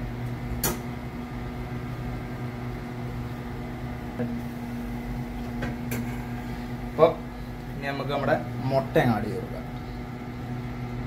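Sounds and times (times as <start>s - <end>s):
motor hum: 0.0s - 11.0s.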